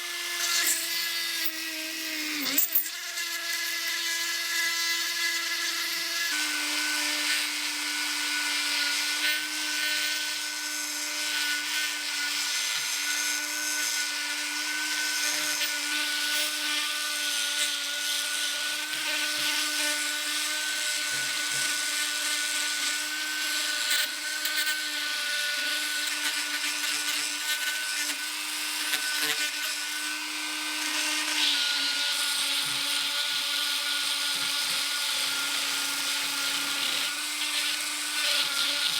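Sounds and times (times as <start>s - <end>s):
electric power tool motor hum: 0.0s - 38.9s.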